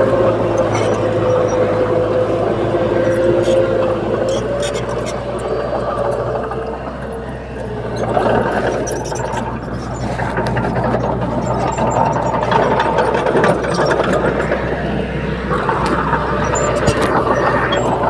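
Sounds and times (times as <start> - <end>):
bulldozer diesel engine running: 0.0 - 18.0
metallic rattle and clatter: 0.0 - 18.0.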